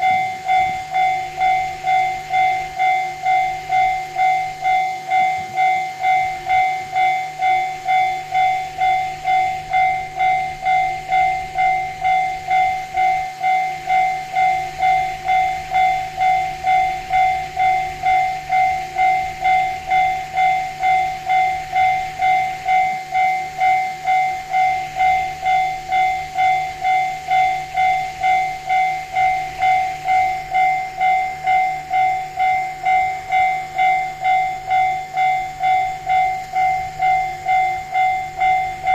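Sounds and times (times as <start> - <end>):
level-crossing alarm ringing: 0.0 - 38.9.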